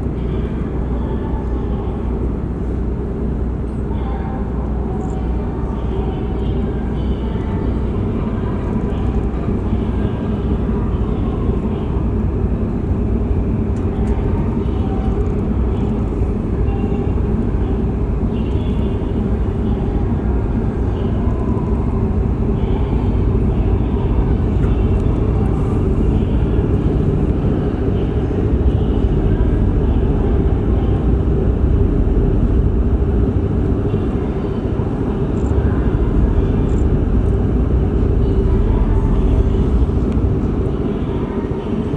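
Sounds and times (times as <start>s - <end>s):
ferry engines rumbling: 0.0s - 41.9s.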